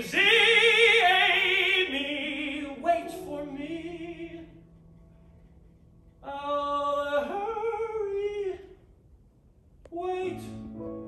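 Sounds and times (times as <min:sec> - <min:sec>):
grand piano accompaniment: 0:00.0 - 0:11.0.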